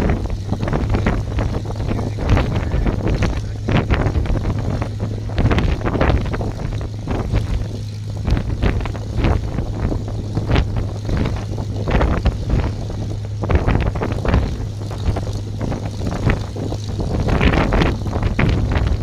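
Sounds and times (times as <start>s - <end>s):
aircraft engine droning: 0.0s - 19.0s
exhaust crackles: 0.0s - 19.0s.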